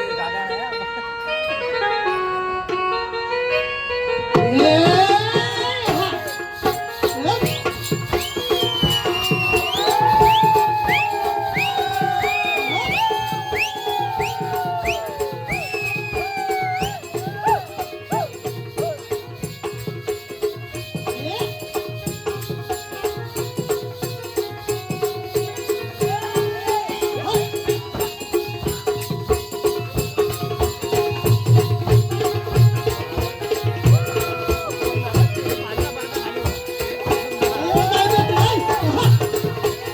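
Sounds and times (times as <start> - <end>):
quick drum beat: 4.8 - 39.9.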